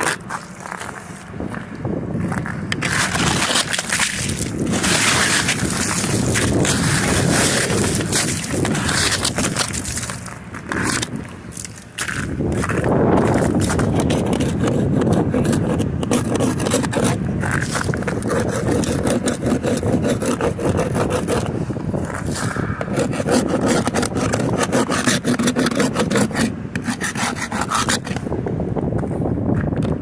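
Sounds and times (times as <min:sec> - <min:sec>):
ice scraped off a car: 0:00.0 - 0:28.4.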